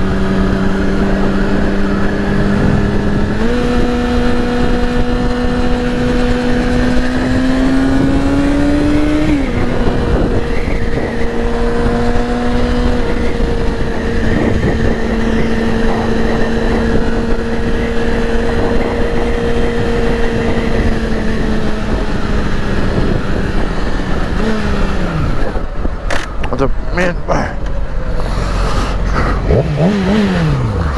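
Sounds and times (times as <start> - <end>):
motorcycle engine: 0.0 - 30.9
wind rush: 0.0 - 30.9.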